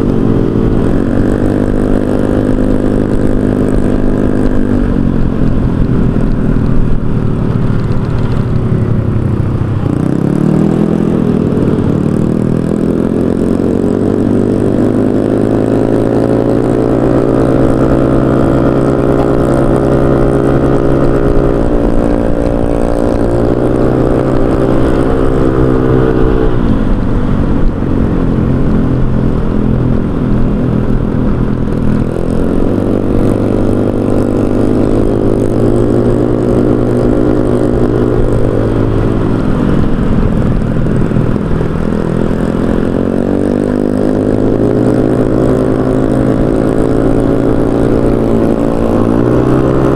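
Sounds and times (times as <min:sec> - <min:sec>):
scooter engine accelerating: 0:00.0 - 0:49.9.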